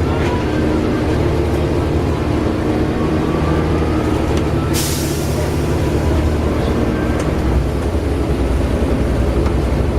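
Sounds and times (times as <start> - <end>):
bus diesel engine drone: 0.0 - 9.9.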